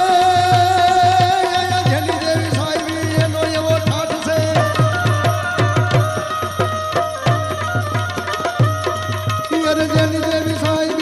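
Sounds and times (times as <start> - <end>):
steady drum rhythm: 0.0 - 11.0.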